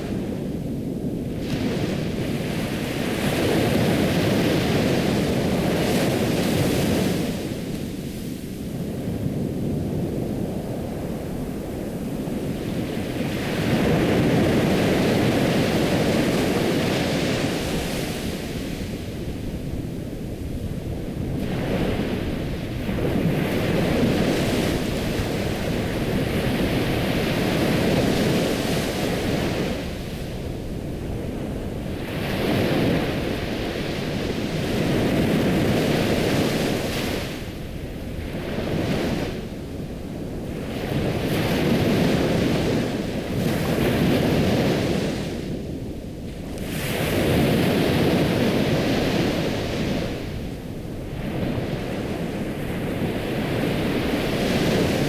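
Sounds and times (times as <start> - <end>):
ocean waves breaking: 1.3 - 55.0.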